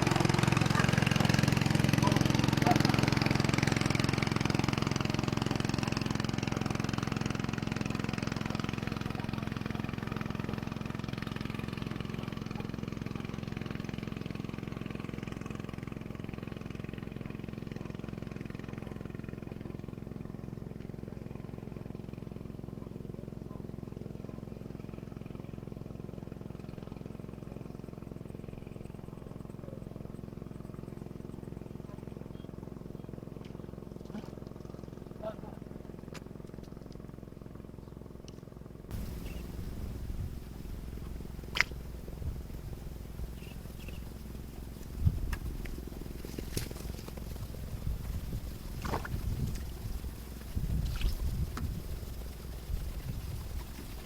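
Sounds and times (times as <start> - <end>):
small engine chugging: 0.0 - 54.0.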